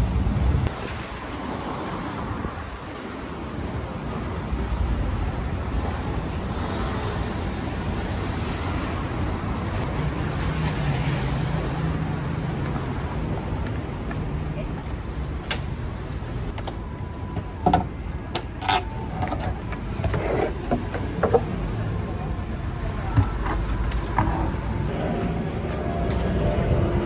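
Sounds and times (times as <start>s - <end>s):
road traffic passing: 0.0s - 27.0s.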